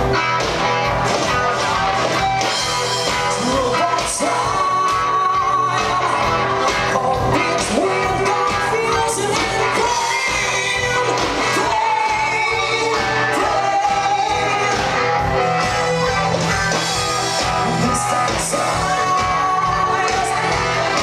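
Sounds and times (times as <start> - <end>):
live rock band playing: 0.0 - 21.0
lead vocals singing: 3.1 - 21.0.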